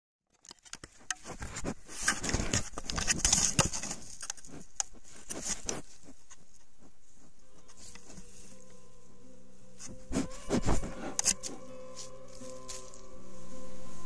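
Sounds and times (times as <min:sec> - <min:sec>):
bear scraping against camera: 0:00.5 - 0:08.9, 0:09.7 - 0:13.1.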